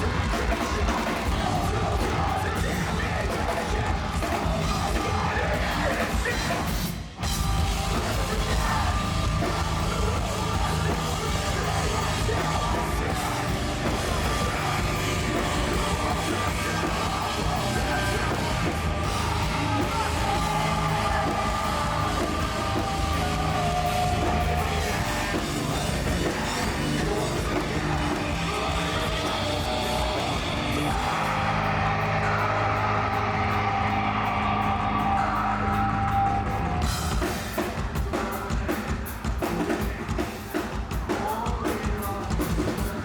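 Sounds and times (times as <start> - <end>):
heavy metal band playing live: 0.0 - 43.0.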